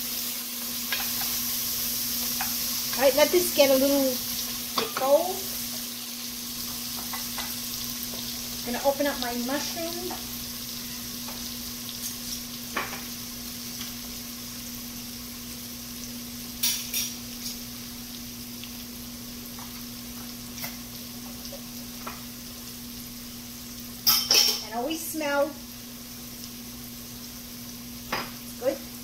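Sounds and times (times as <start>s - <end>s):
onions and garlic sizzling in oil: 0.0s - 29.0s.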